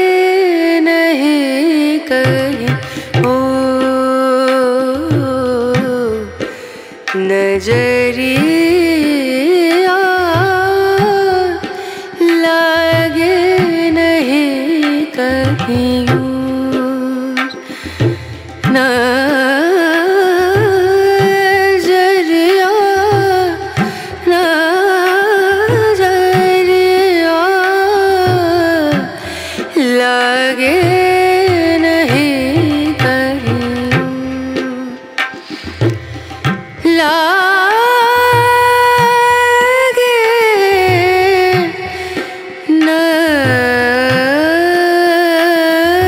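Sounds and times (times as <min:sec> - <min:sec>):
hand drum beats: 0:01.6 - 0:46.0.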